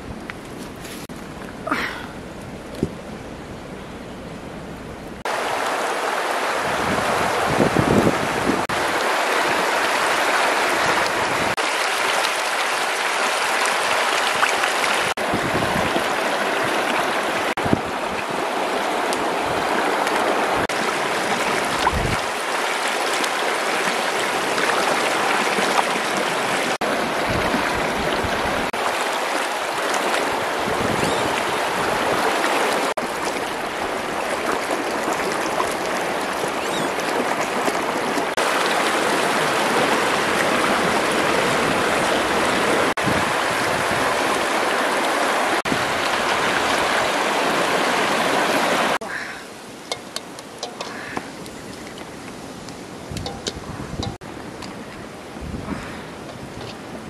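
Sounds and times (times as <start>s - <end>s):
river rushing over rocks: 5.3s - 51.4s.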